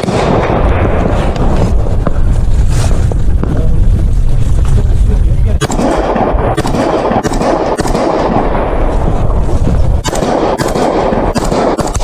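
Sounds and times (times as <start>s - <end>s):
rifle shots: 0.0s - 3.6s, 5.6s - 12.0s
loud continuous din: 0.0s - 12.0s.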